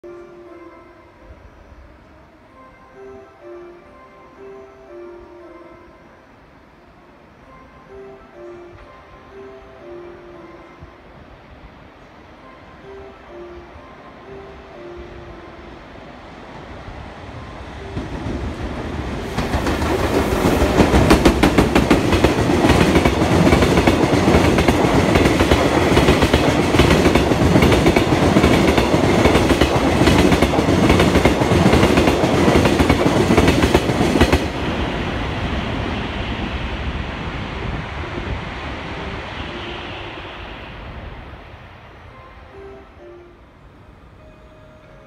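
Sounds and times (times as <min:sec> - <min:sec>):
train rumble: 0:05.9 - 0:45.0.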